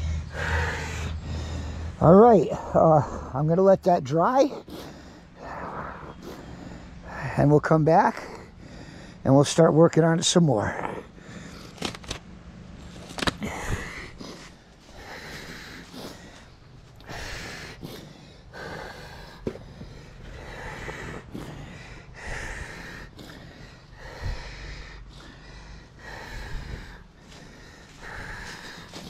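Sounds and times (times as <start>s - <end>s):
person breathing: 0.0s - 3.5s, 4.5s - 9.3s, 10.6s - 12.0s, 12.8s - 29.0s
faint low hum: 0.0s - 29.0s.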